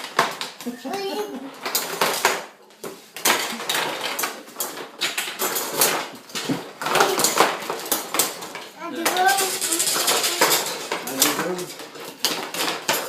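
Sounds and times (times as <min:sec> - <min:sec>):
pots and pans banging: 0:00.0 - 0:02.6, 0:03.2 - 0:13.0.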